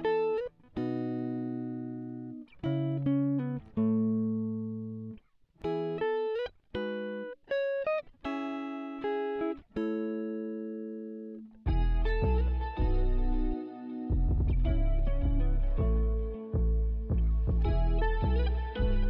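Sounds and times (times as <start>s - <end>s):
guitar playing slow chords: 0.0s - 19.0s.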